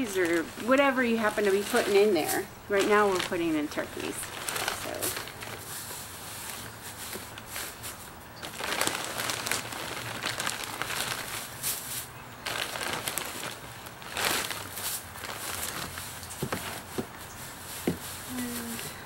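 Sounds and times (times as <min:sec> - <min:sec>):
crinkly plastic bag: 0:00.0 - 0:19.0
wood shavings rustling: 0:00.0 - 0:19.0.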